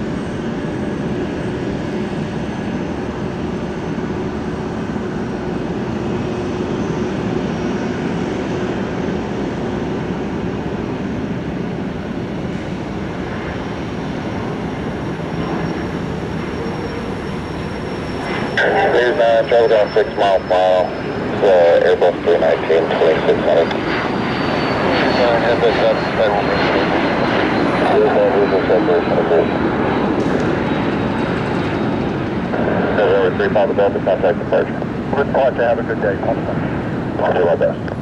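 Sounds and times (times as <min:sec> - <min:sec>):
jet engines droning: 0:00.0 - 0:38.0.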